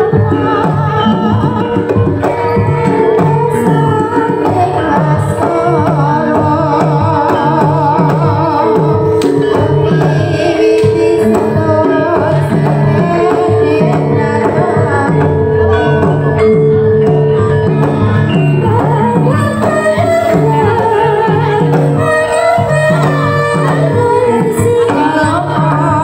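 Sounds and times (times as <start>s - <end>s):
gamelan ensemble playing: 0.0s - 26.0s
hand drums beating: 0.0s - 26.0s.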